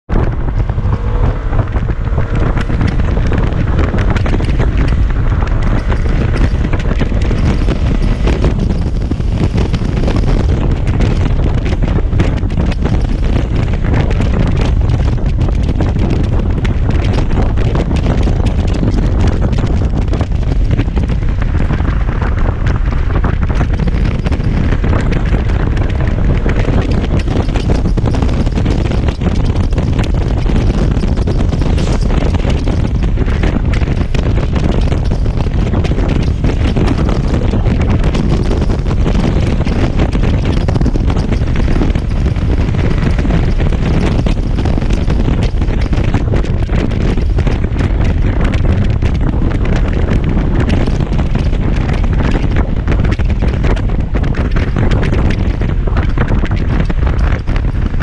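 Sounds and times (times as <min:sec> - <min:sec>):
wind buffeting microphone: 0:00.0 - 0:58.0
scooter engine running: 0:00.1 - 0:58.0.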